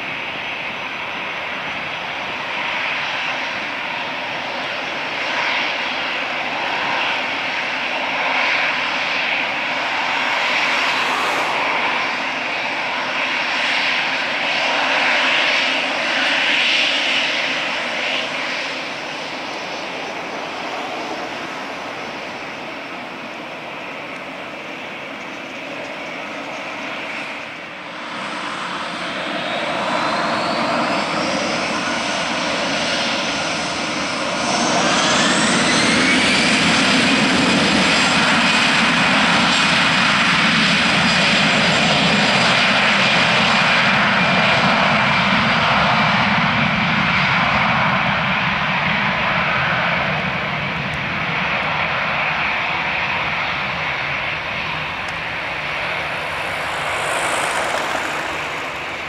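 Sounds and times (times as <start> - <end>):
jet engine low roar: 0.0 - 59.0
jet engine whine: 0.0 - 59.0.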